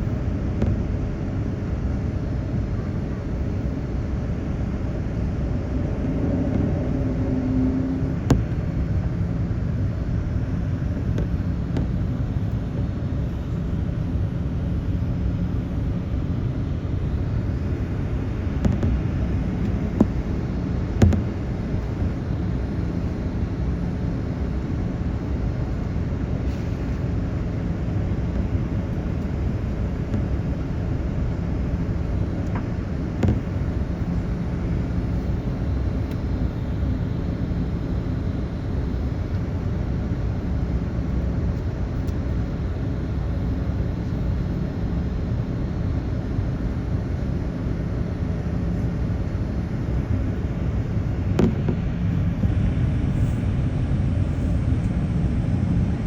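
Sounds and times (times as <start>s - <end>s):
aircraft cabin engine rumble: 0.0s - 56.0s
faint steady hum: 0.0s - 56.0s.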